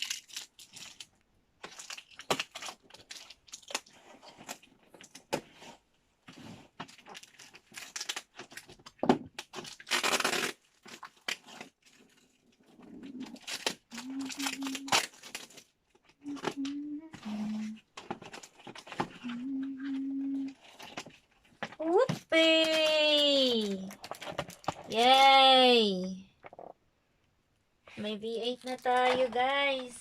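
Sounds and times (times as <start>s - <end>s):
plastic packaging crinkling: 0.0s - 5.5s, 6.4s - 21.8s, 22.6s - 25.2s, 28.2s - 29.9s
plastic tearing: 0.0s - 25.2s, 28.4s - 29.9s.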